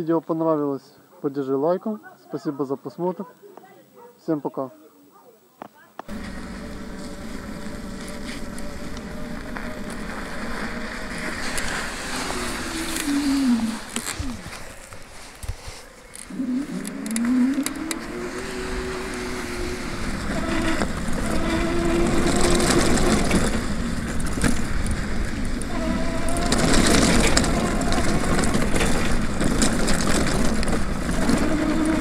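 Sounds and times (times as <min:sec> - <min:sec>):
tyre noise on dirt: 0:06.0 - 0:32.0
electric motor whine: 0:06.1 - 0:32.0.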